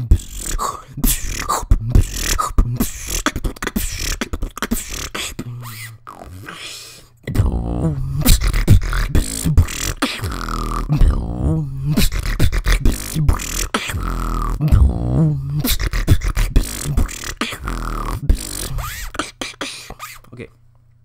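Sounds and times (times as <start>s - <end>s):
wobbling vocal bass: 0.0s - 6.6s, 7.2s - 19.4s
beatbox kick and snare: 0.0s - 20.3s.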